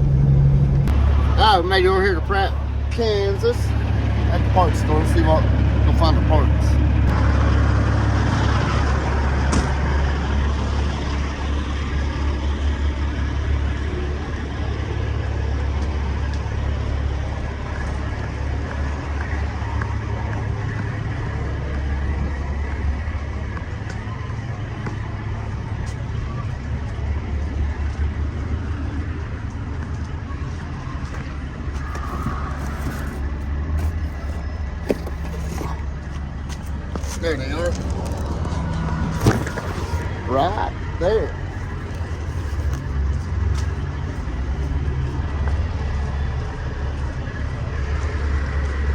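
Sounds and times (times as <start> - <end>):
cab and road noise: 0.0 - 48.9
truck engine droning: 0.0 - 48.9.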